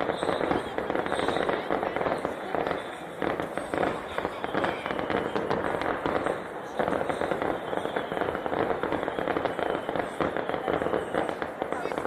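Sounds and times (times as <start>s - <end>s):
fireworks crackling bangs: 0.0s - 12.0s.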